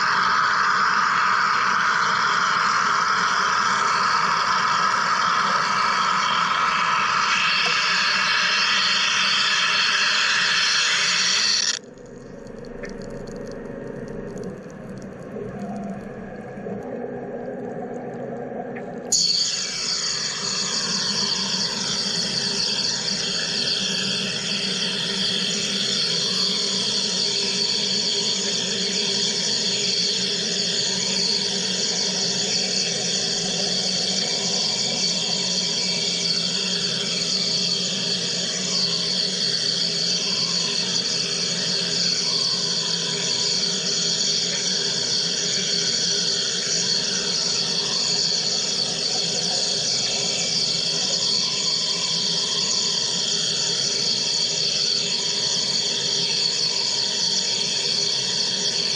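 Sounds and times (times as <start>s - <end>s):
high hiss: 0.0s - 11.9s, 19.1s - 58.9s.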